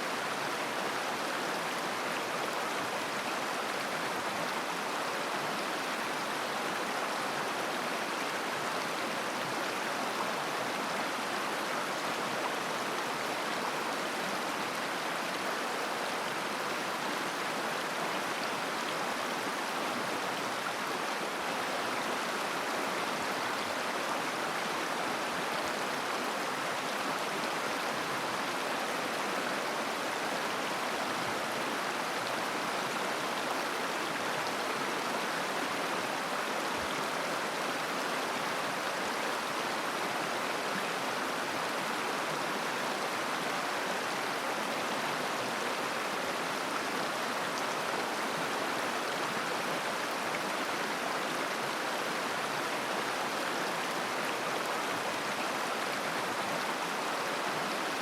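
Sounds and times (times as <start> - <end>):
river water babbling over stones: 0.0 - 58.0.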